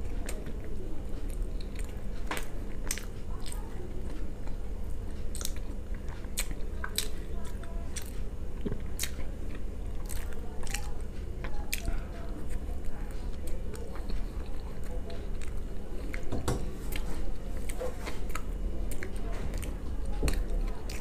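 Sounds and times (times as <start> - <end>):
chewing and biting: 0.0 - 21.0
steady low hum: 0.0 - 21.0.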